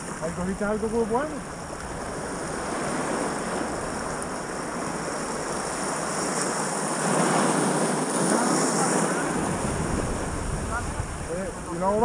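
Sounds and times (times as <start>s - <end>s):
sea waves washing ashore: 0.0s - 12.0s
wind on microphone: 0.0s - 12.0s.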